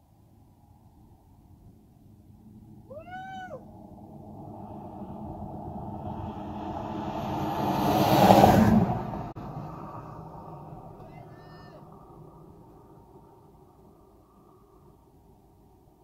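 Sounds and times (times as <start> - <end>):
road vehicle passing by: 2.3 - 16.0.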